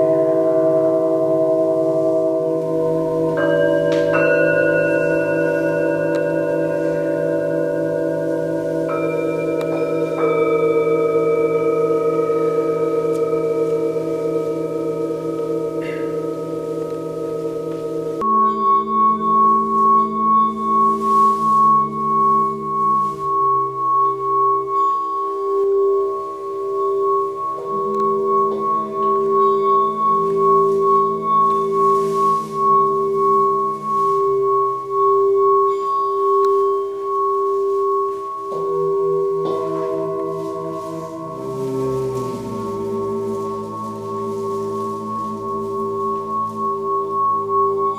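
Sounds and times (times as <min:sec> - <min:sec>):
metal singing bowls ringing: 0:00.0 - 0:47.9
singing bowl struck: 0:00.0 - 0:47.9.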